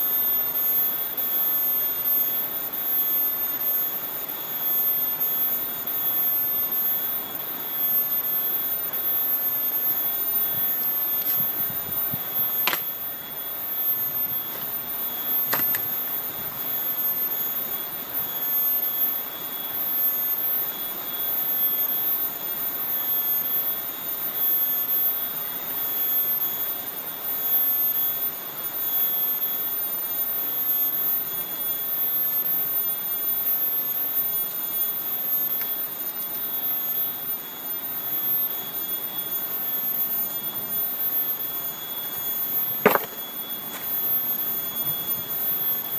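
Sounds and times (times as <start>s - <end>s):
cicadas droning: 0.0s - 45.9s.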